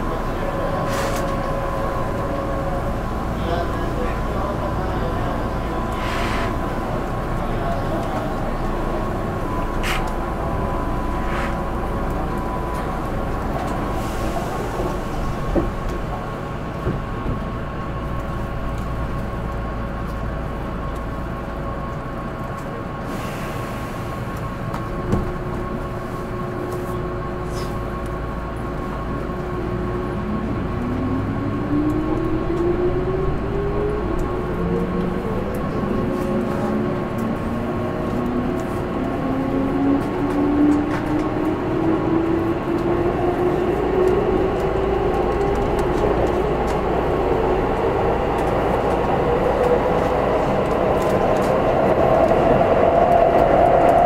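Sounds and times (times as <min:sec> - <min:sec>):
train equipment hum: 0:00.0 - 0:54.0.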